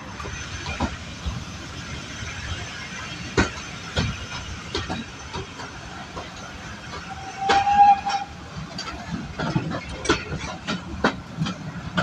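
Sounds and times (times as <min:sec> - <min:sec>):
train rumble and hiss: 0:00.0 - 0:12.0
train wheels clicking over rail joints: 0:00.0 - 0:12.0.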